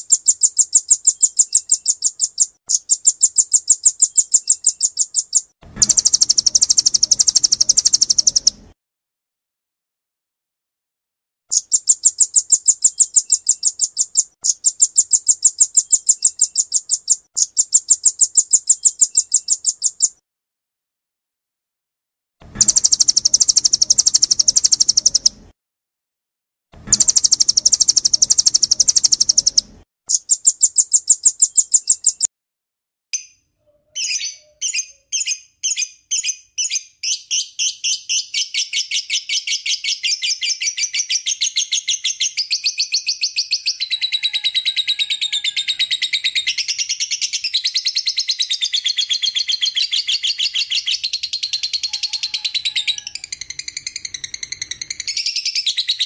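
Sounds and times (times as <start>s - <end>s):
bird chips and chattering trill: 0.0s - 8.6s, 11.5s - 20.2s, 22.6s - 25.4s, 26.9s - 32.3s, 34.0s - 56.0s
songbird trills: 0.0s - 8.7s, 11.5s - 20.2s, 22.5s - 25.4s, 26.9s - 32.3s, 33.2s - 56.0s.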